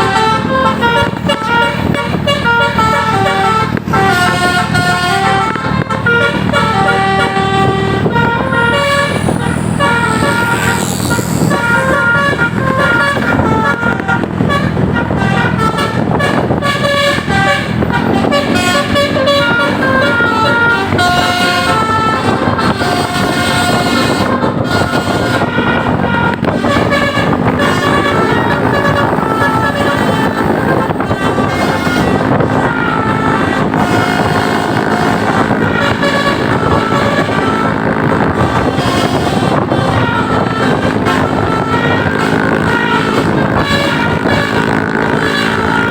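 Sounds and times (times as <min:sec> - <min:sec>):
low steady horn note: 0:00.0 - 0:45.9
musical air horns playing melody: 0:00.0 - 0:45.9.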